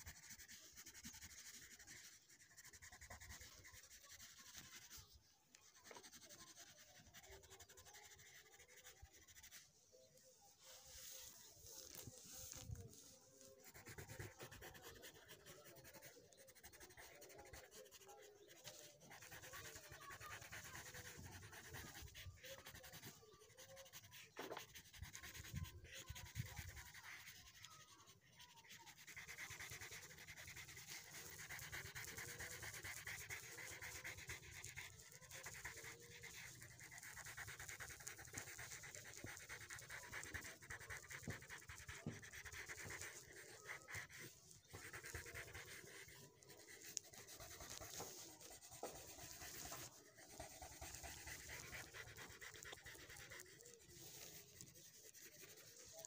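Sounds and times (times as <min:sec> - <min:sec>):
pencil scratching on paper: 0:00.0 - 0:56.0.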